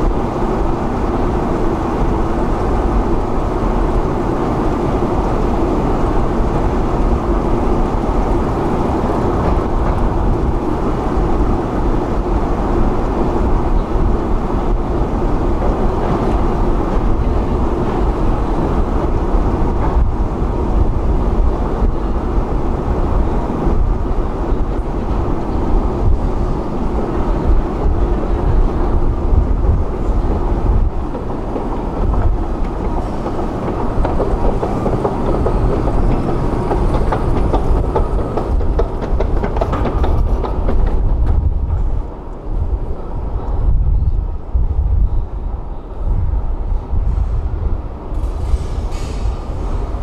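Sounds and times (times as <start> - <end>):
light escalator clicks: 0.0 - 42.8.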